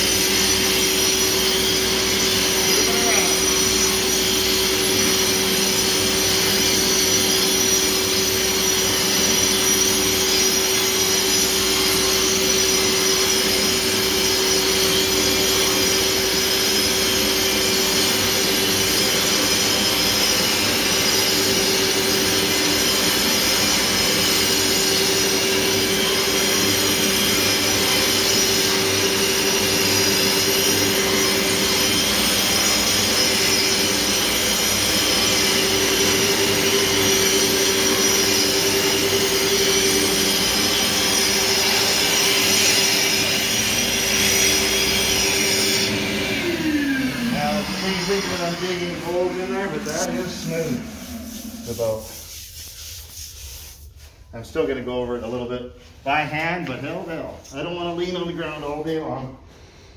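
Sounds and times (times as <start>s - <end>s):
angle grinder grinding concrete: 0.0s - 53.8s
shop vacuum running: 0.0s - 59.9s.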